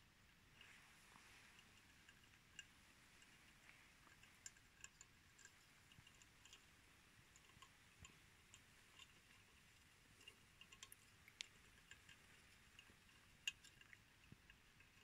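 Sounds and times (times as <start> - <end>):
mice nibbling and scrabbling: 0.0 - 15.0.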